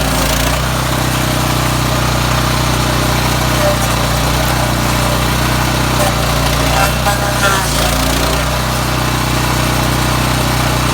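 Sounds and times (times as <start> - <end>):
stump grinder engine running: 0.0 - 10.9.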